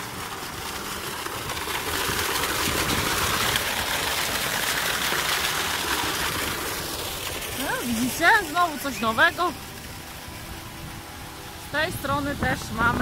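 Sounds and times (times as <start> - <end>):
water jet splashing into pool: 0.0 - 13.0.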